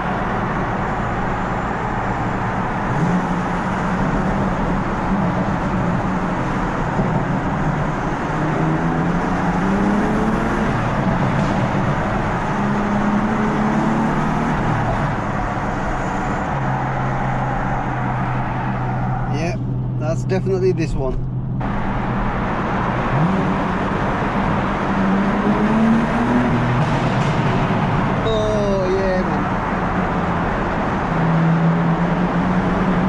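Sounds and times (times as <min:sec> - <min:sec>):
car engine accelerating hard: 0:00.0 - 0:33.0.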